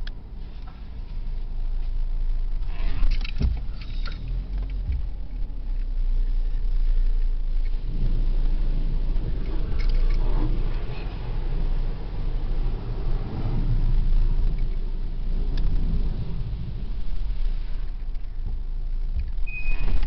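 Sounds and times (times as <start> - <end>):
car rumble from inside cabin: 0.0 - 20.0.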